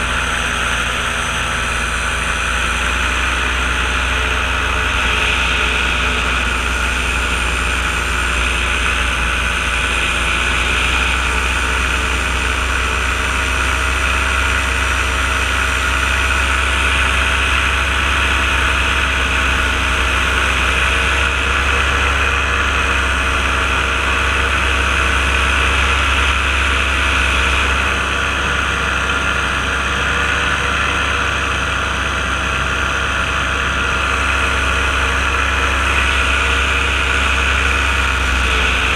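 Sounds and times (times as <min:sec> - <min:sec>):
paramotor engine and propeller: 0:00.0 - 0:38.9.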